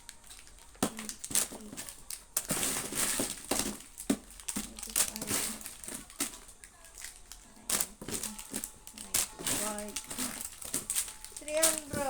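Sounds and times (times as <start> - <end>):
wrappers crinkling and rustling: 0.0 - 12.0.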